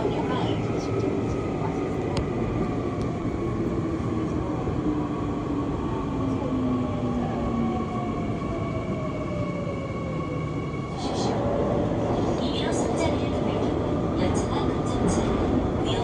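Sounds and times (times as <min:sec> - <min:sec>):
train wheel-on-rail rumble: 0:00.0 - 0:16.0.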